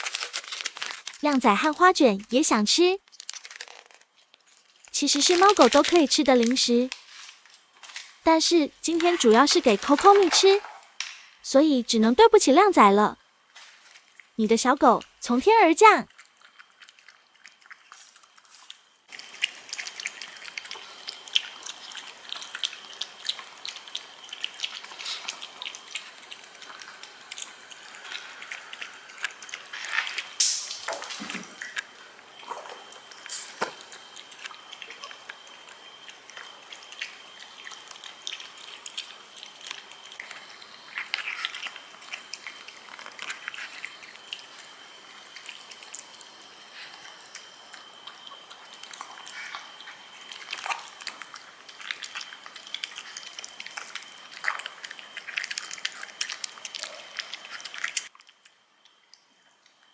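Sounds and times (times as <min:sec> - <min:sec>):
dog lapping and chewing food: 0:03.4 - 0:07.5, 0:08.4 - 0:11.1, 0:16.1 - 0:59.9.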